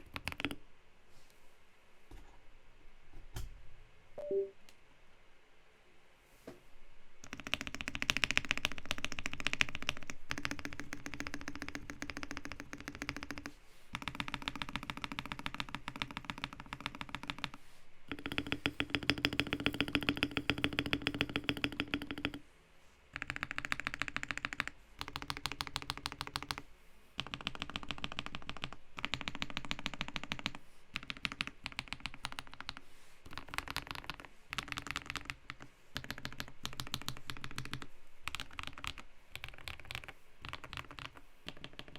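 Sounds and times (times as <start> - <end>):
mechanical keyboard typing: 0.0 - 0.6, 7.2 - 22.4, 23.2 - 26.6, 27.2 - 41.9.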